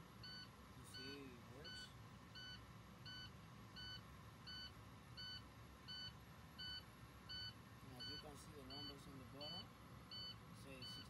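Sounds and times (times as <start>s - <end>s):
faint short warning beeps: 0.2s - 11.0s.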